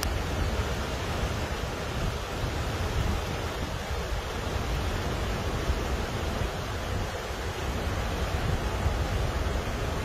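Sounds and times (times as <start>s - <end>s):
rushing water: 0.0s - 10.0s
wind buffeting microphone: 0.0s - 10.0s.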